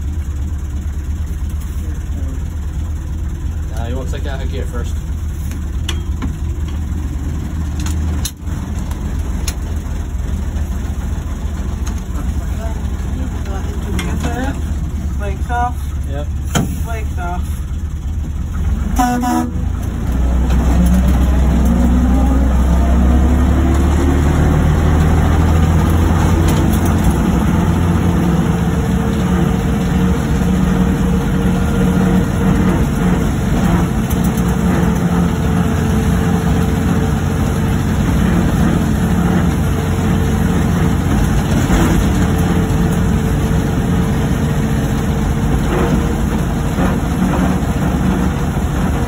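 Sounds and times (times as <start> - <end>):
diesel locomotive engine hum: 0.0 - 49.0.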